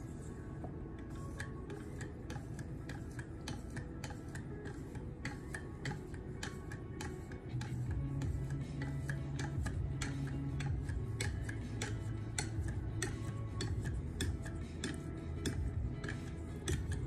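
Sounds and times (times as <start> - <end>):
steady low hum: 0.0 - 17.0
sharpening stone ticking on knife: 1.0 - 17.0.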